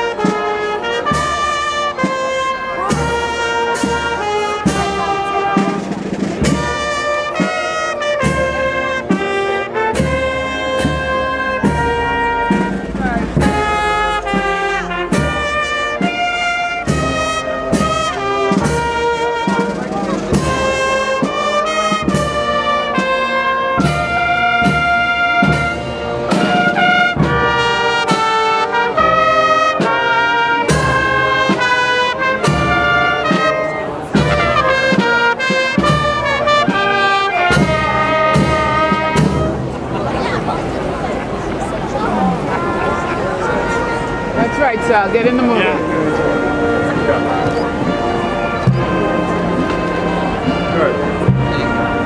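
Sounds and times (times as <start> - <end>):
steady drum beat: 0.0 - 40.8, 44.1 - 52.0
brass band playing: 0.0 - 52.0.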